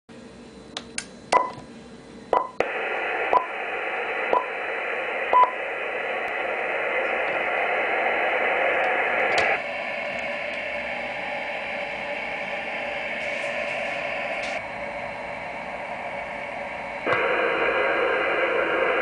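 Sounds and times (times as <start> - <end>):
radio receiver hiss: 2.4 - 19.0.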